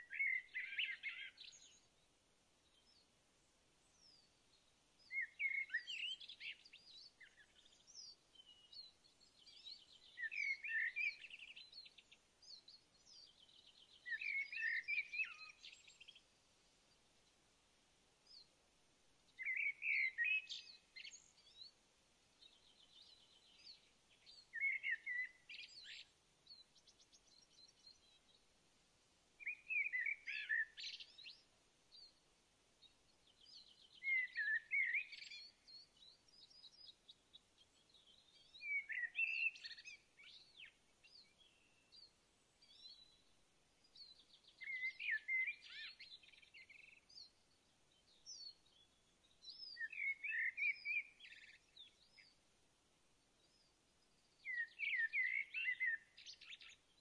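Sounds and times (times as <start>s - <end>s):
faint rapid bird trill: 0.0s - 28.6s, 29.3s - 57.0s.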